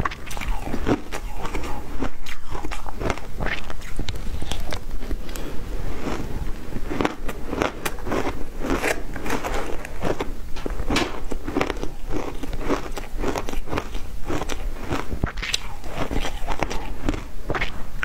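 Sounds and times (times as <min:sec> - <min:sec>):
ice crunching as chewed: 0:00.0 - 0:18.0.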